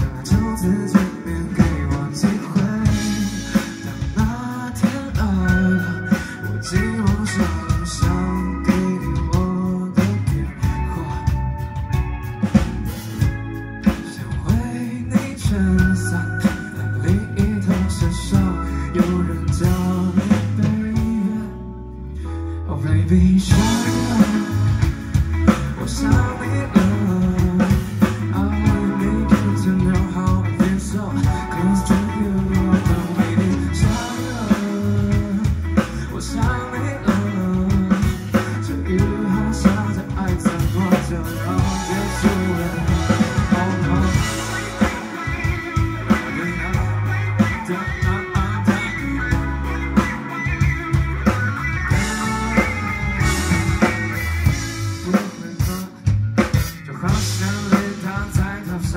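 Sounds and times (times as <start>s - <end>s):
man singing lead vocal: 0.0s - 11.9s, 13.2s - 58.9s
pop-rock band playing: 0.0s - 58.9s.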